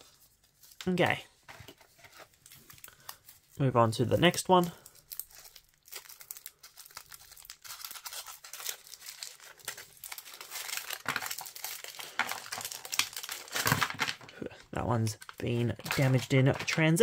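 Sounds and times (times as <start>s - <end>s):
foil wrapper crinkling: 0.1s - 14.5s, 15.2s - 17.0s.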